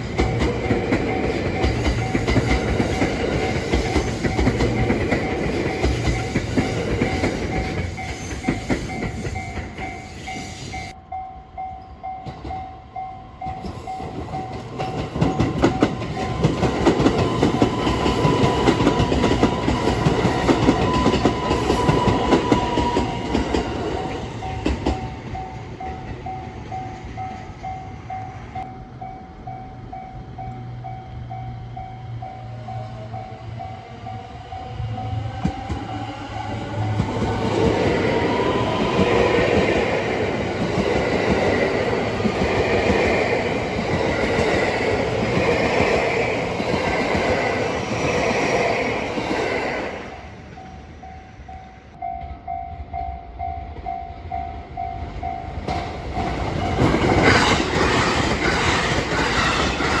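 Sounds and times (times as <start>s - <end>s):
train rumbling over rail joints: 0.0s - 11.0s, 12.1s - 52.5s, 53.7s - 60.0s
level-crossing warning bell: 0.0s - 48.2s, 50.1s - 58.5s.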